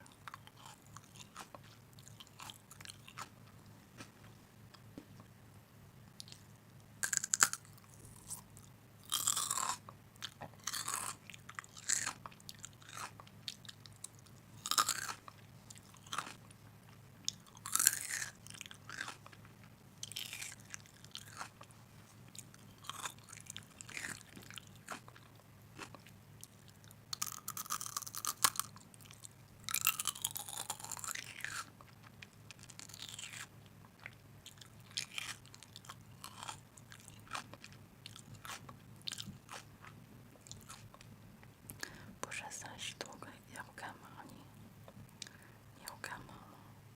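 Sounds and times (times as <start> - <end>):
person chewing crunchy food: 0.0 - 5.3, 6.2 - 41.1.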